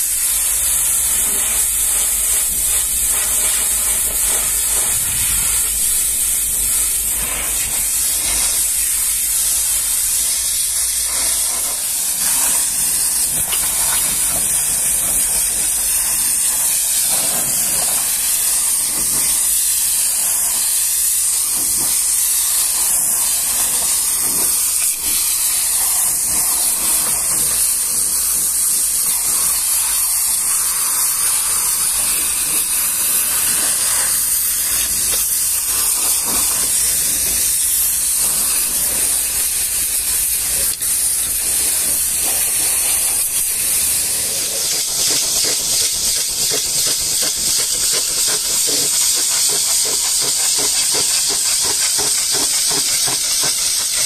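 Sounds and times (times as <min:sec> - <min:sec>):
pressure washer spray hissing: 0:00.0 - 0:54.0.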